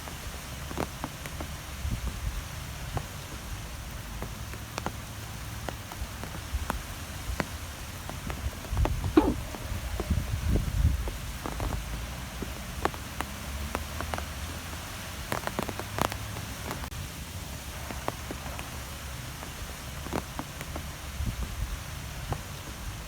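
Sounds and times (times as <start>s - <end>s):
raindrops tapping: 0.0s - 23.0s.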